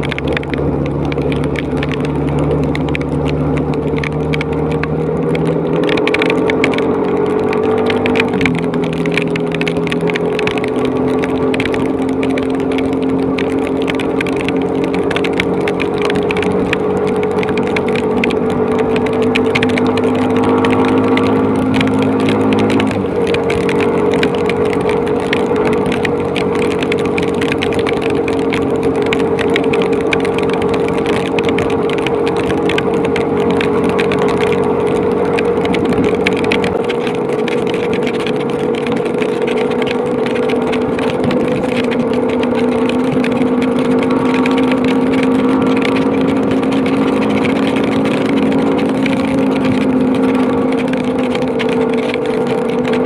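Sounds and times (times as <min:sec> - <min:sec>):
fine ticking: 0:00.0 - 0:53.0
motorcycle engine running: 0:00.0 - 0:53.0.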